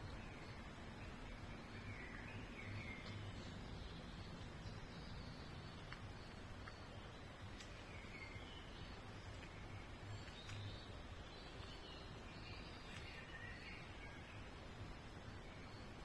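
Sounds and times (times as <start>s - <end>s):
faint bird chirps: 0.0s - 16.0s
outdoor background noise: 0.0s - 16.0s.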